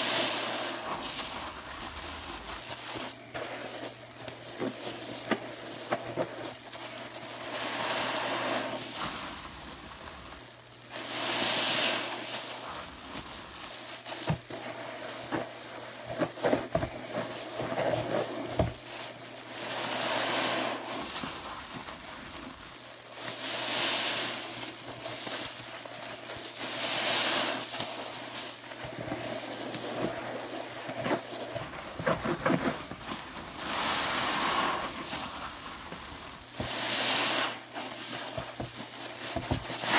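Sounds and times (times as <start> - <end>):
foam bubbles crackling: 0.0 - 39.9
wet sponge squelching: 0.0 - 39.9.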